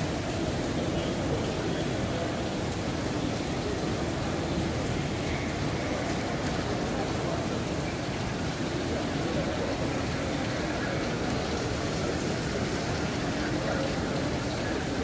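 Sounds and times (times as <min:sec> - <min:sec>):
rain on wet paving: 0:00.0 - 0:15.0.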